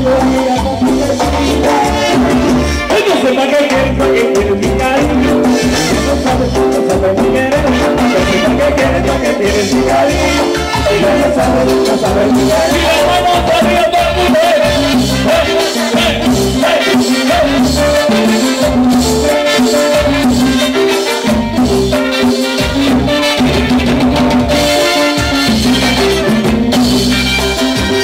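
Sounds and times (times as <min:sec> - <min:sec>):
bass guitar: 0:00.0 - 0:28.0
congas: 0:00.0 - 0:28.0
keyboard: 0:00.0 - 0:28.0
trumpets: 0:01.4 - 0:03.6, 0:05.2 - 0:06.6, 0:07.6 - 0:28.0.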